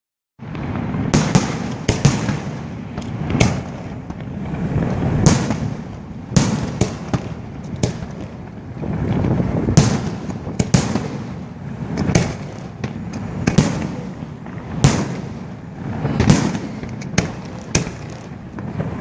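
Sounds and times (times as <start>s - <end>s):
fireworks bangs: 0.4s - 19.0s.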